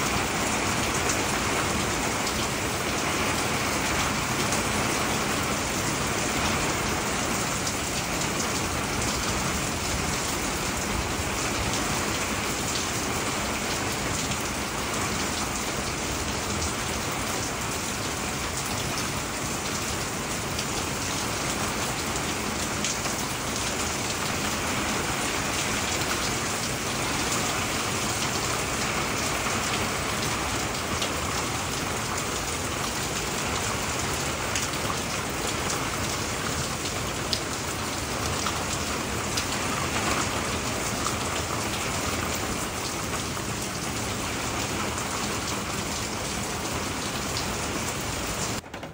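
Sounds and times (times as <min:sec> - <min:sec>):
rain on roof and leaves: 0:00.0 - 0:48.9.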